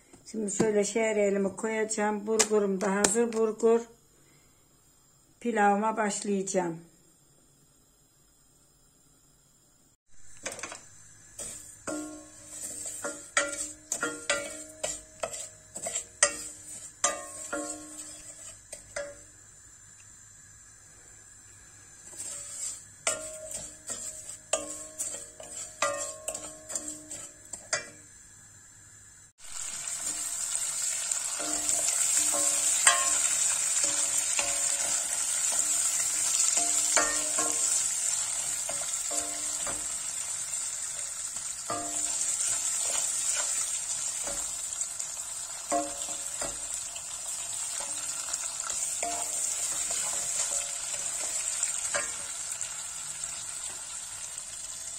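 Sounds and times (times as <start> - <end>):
noodles sizzling in hot fat: 9.6 - 54.9.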